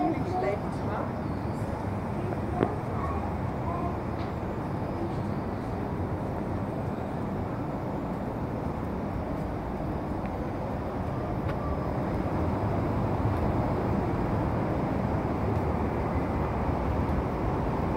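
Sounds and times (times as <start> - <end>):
passenger train rolling past: 0.0 - 17.9.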